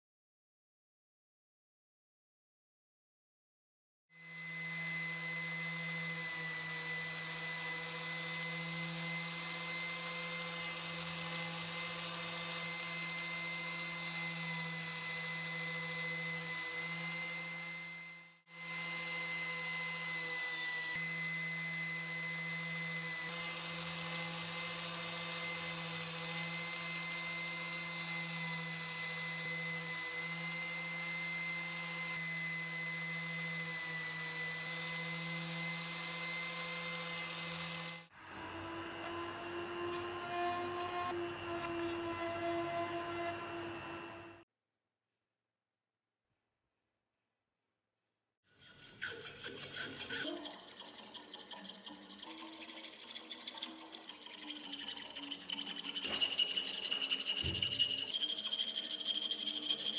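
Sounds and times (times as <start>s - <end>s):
electric power tool whine: 4.2s - 44.5s, 50.5s - 59.9s.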